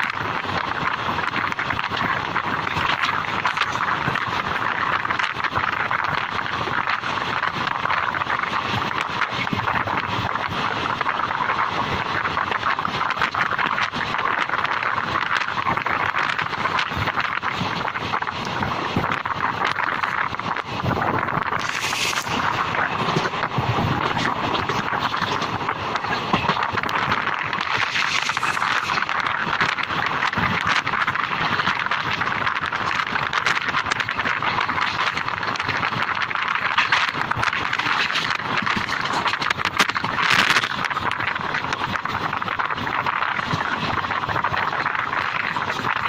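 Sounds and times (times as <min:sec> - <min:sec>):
train wheels on rails rushing: 0:00.0 - 0:46.0.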